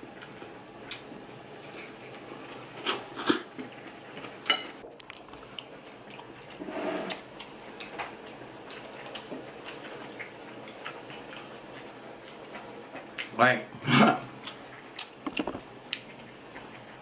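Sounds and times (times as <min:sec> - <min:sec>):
muffled eating sound: 0:00.1 - 0:17.0.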